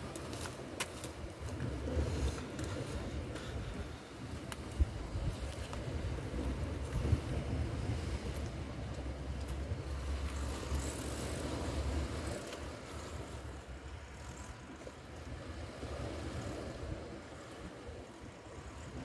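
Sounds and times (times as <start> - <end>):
sea wash: 0.0 - 19.0
wind rumbling on microphone: 0.0 - 19.0.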